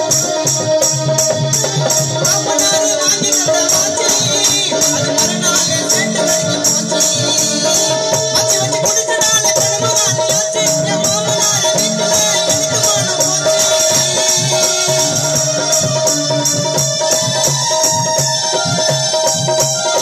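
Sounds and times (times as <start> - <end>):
electronic keyboard: 0.0 - 20.0
man singing into a microphone: 0.0 - 20.0
percussion: 0.0 - 20.0.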